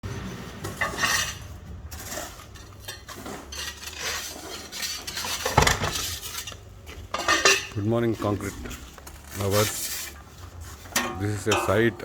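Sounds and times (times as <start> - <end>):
metal tools scraping and clinking: 0.1 - 12.0.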